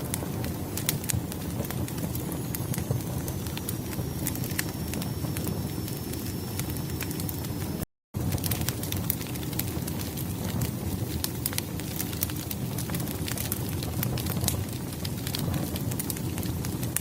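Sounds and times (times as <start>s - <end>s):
firewood crackling and popping: 0.0s - 17.0s
low fire rumble: 0.0s - 17.0s.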